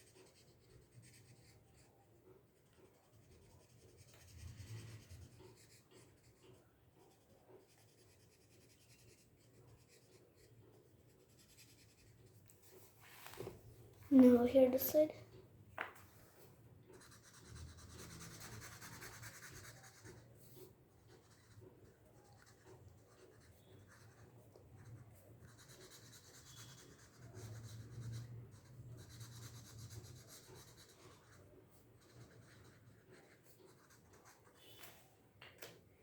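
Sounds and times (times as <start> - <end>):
marker scratching on paper: 0.0 - 13.6, 16.4 - 34.9.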